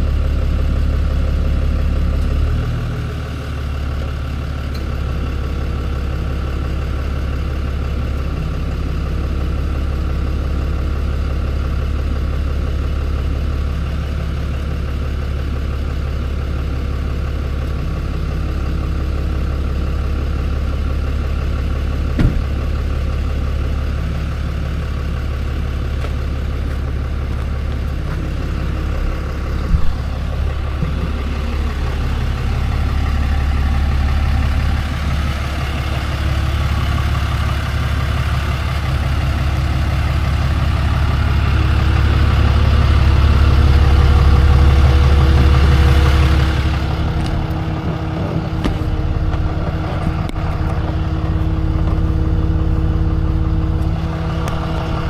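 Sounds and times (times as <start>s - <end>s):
truck engine driving: 0.0s - 55.0s.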